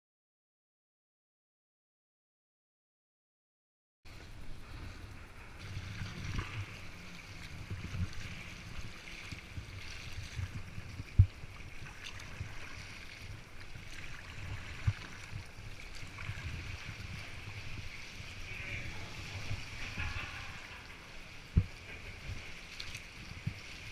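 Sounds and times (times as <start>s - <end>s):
paddle splashing in water: 4.1s - 23.9s
wind rumbling on microphone: 4.1s - 23.9s.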